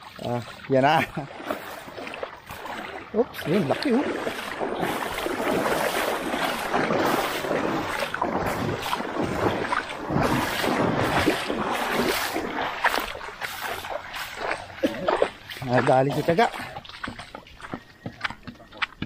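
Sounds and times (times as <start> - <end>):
river water sloshing and splashing: 0.0 - 19.0.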